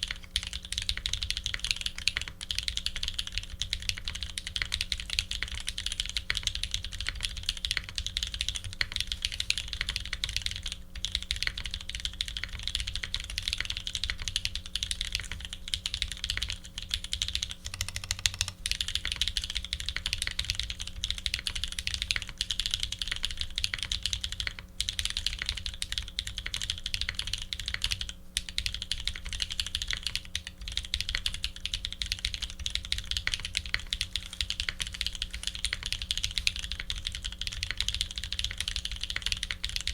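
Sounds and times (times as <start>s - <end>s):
faint steady hum: 0.0s - 39.9s
mechanical keyboard typing: 0.0s - 39.9s.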